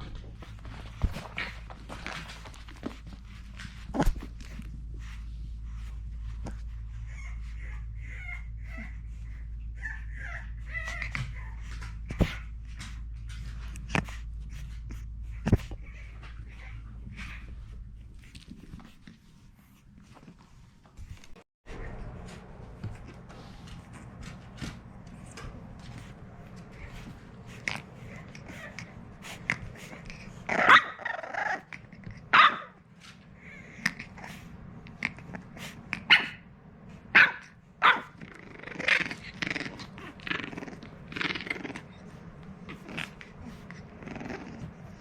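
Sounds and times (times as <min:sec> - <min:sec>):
puppy barking and growling: 0:00.0 - 0:19.0, 0:24.6 - 0:45.0
low steady hum: 0:00.0 - 0:45.0.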